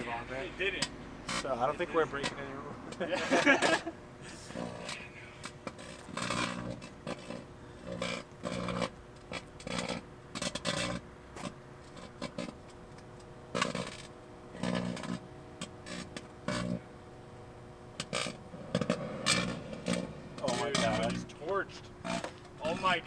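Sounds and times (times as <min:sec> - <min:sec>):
buzzing and crackling arcing: 0:00.0 - 0:23.0
microwave oven humming: 0:00.0 - 0:23.0.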